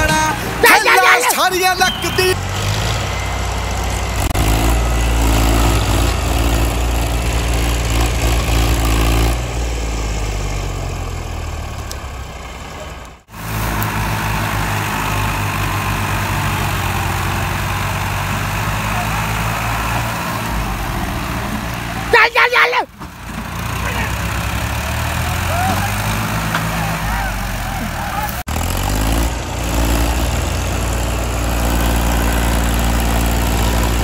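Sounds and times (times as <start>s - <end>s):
tractor diesel engines under load: 0.0s - 34.0s.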